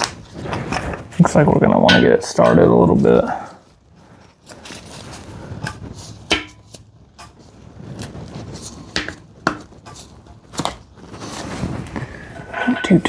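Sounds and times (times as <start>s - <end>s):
low shuffling: 0.1s - 13.0s.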